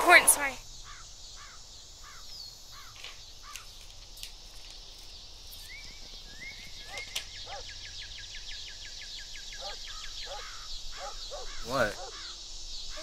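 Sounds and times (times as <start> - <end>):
birds calling: 0.0 - 13.0
high insect hum: 0.0 - 13.0.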